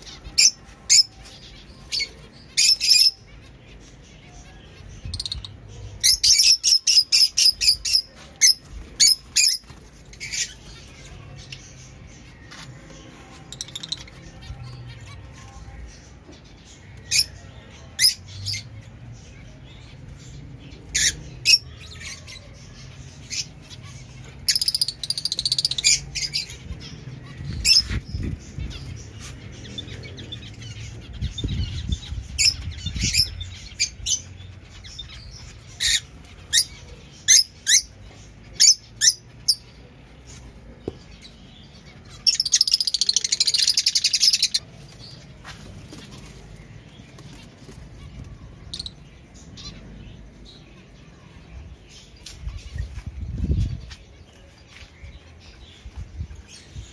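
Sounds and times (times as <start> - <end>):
birds chirping shrilly: 0.0 - 16.0, 19.9 - 56.9
birds chattering rapidly: 0.0 - 56.9.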